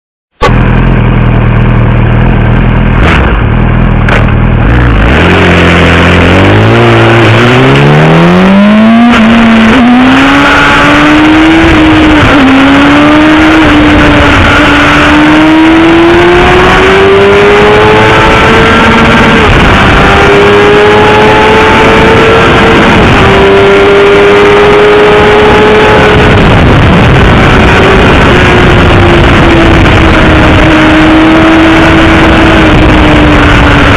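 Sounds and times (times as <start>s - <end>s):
sport bike engine revving in tunnel: 0.4s - 33.9s.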